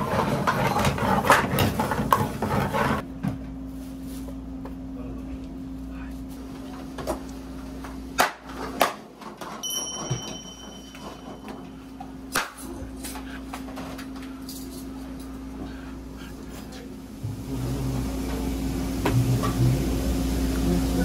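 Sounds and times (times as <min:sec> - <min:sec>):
kitchen equipment hum: 0:00.0 - 0:21.0.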